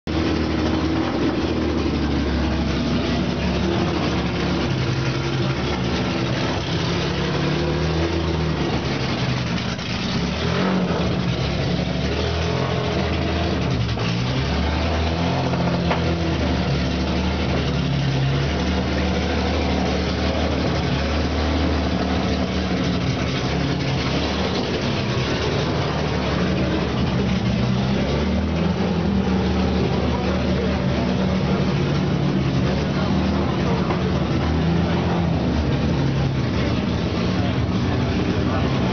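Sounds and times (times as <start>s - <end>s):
racing car engine idling: 0.0s - 38.9s.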